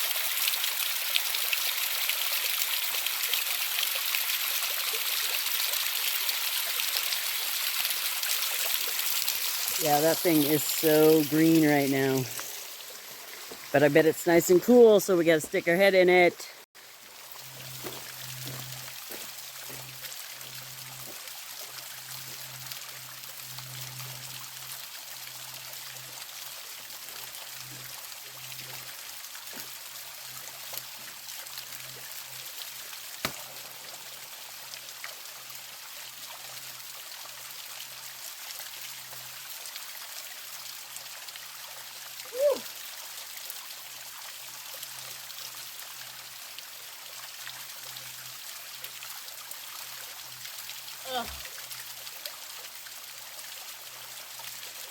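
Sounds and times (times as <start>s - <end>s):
small waterfall splashing: 0.0s - 54.9s.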